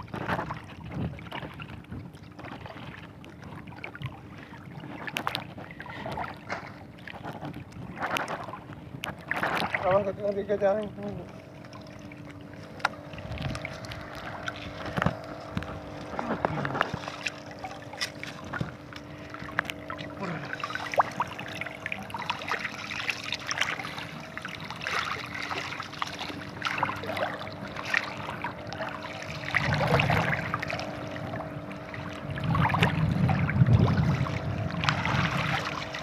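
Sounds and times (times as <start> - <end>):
faint motor hum: 0.0 - 36.0
water trickling and splashing: 0.0 - 36.0
wind buffeting microphone: 0.0 - 36.0.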